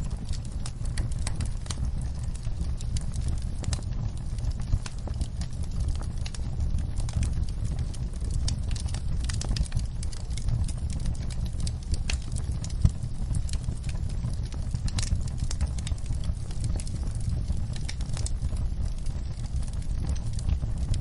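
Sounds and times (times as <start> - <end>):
fire popping and snapping: 0.0 - 21.0
wood fire crackling: 0.0 - 21.0.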